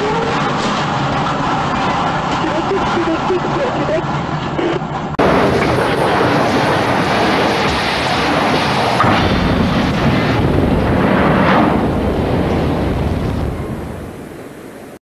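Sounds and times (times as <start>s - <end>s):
train crash rumbling roar: 0.0s - 15.0s.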